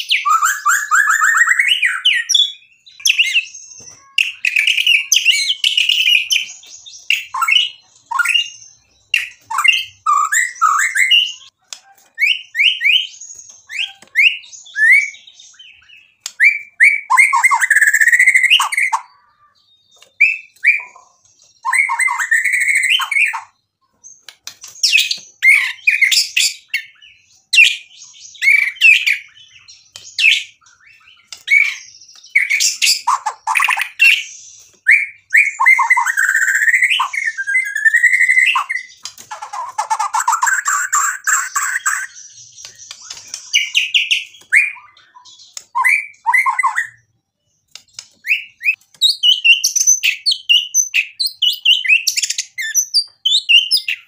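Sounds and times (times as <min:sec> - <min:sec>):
songbird singing whistled phrases: 0:00.0 - 0:54.0.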